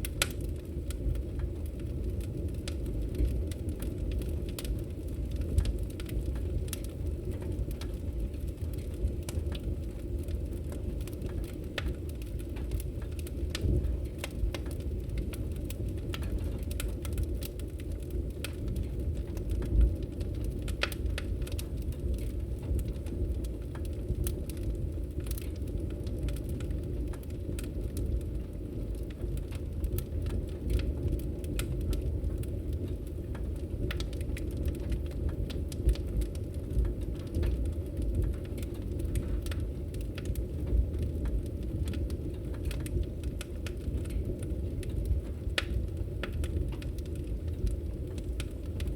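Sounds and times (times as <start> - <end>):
fire crackling in a fireplace: 0.0 - 48.9
fire popping and snapping: 0.0 - 48.9.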